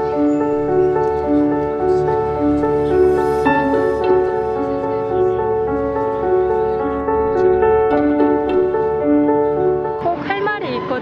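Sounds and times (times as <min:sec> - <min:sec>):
background music with held notes: 0:00.0 - 0:10.7.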